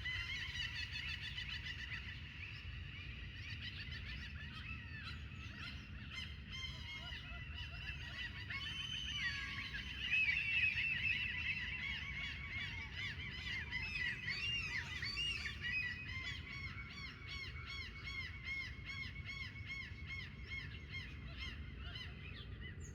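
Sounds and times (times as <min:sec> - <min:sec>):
flock of birds chirping: 0:00.0 - 0:22.9.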